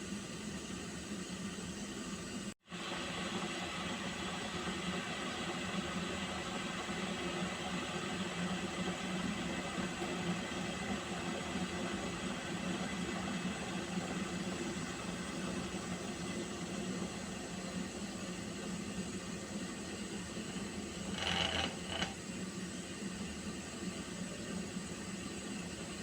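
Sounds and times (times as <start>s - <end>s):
water boiling in a pot: 0.0s - 26.0s.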